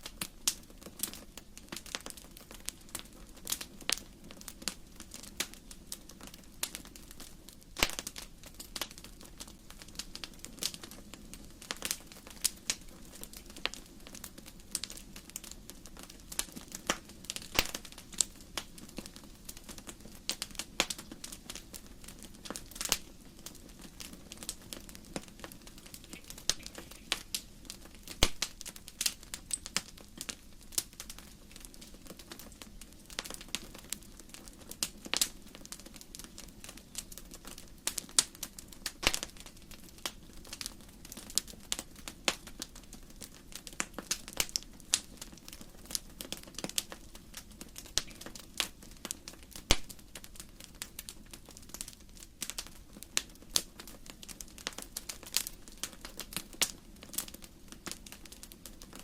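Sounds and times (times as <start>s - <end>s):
firewood crackling in fireplace: 0.0s - 59.0s.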